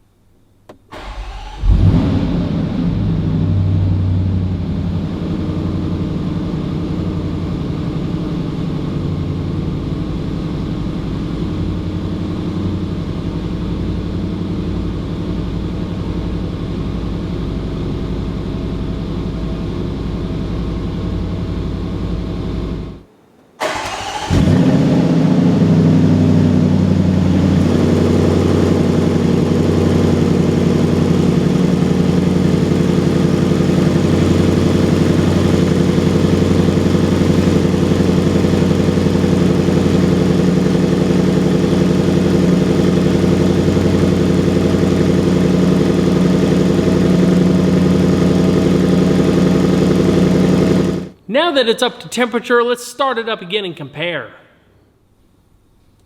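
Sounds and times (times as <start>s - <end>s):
car engine revving and idling: 1.0s - 23.0s, 23.6s - 51.2s.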